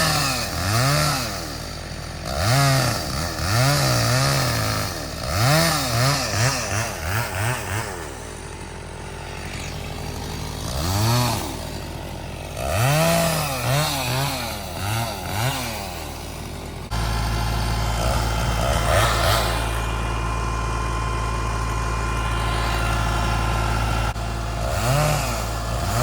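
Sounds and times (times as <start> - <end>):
chainsaw revving and idling: 0.0 - 26.0.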